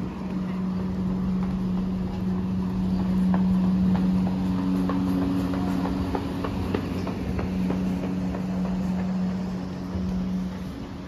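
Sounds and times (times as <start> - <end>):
footsteps on paving stones: 0.0 - 11.0
higher hum tone: 0.0 - 11.0
steady low hum: 0.0 - 11.0.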